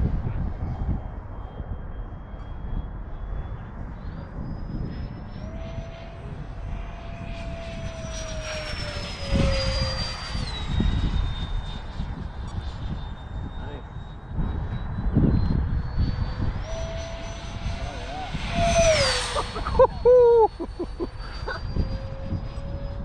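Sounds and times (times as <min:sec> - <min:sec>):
electric ducted fan whining: 0:00.0 - 0:23.0
wind rumble on microphone: 0:00.0 - 0:23.0.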